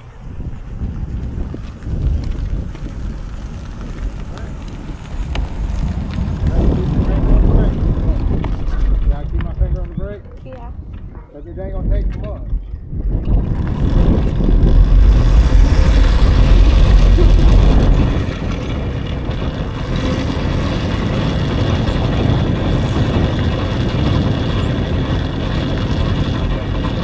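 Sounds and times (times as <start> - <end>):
tyre rumble: 0.0 - 27.0
wind buffeting microphone: 0.0 - 27.0.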